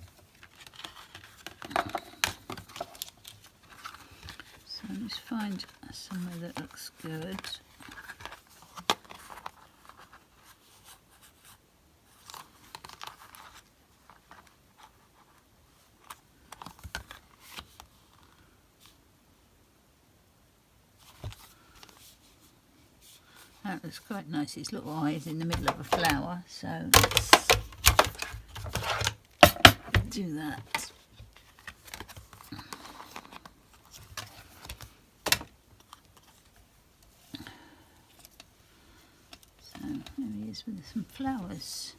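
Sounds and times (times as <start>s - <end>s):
paper rustling: 0.1s - 18.4s, 24.7s - 41.8s.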